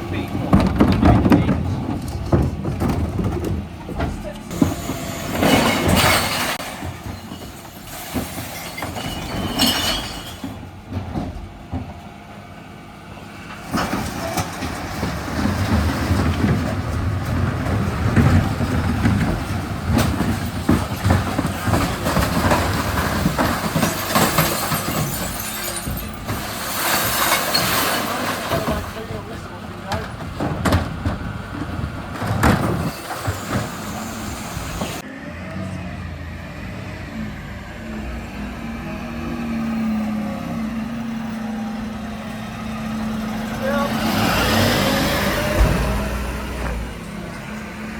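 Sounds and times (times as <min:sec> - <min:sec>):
knocks rattles and clanks: 0:00.0 - 0:35.1, 0:38.0 - 0:47.9
garbage truck rumbling: 0:00.0 - 0:47.9.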